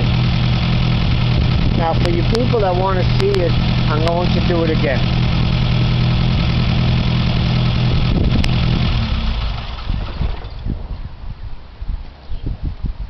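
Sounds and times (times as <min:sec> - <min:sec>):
car engine idling: 0:00.0 - 0:10.7
low thumps: 0:00.0 - 0:11.0.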